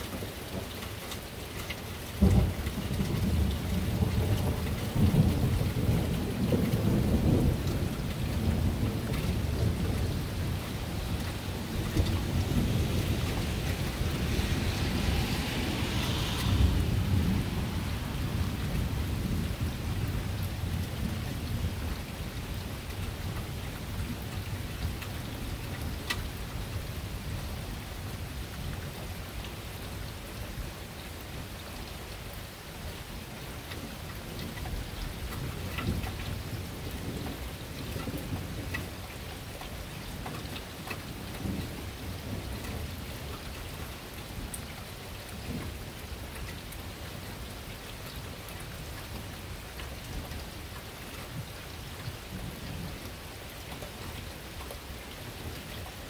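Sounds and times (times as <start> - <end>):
steady rain: 0.0 - 56.0
low rumble of thunder: 1.7 - 56.0.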